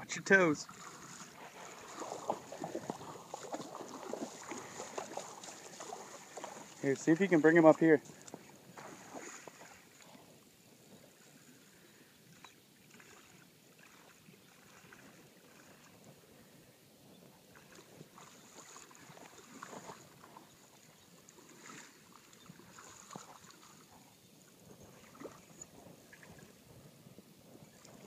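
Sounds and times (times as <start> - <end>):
shallow water sloshing: 0.2 - 16.5, 17.5 - 26.9, 27.5 - 28.0
soft water splashes: 0.2 - 16.6, 17.4 - 26.9, 27.5 - 28.0.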